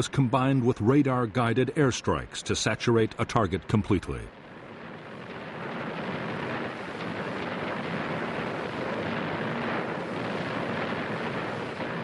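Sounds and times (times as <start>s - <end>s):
steady rushing roar: 0.0s - 12.0s.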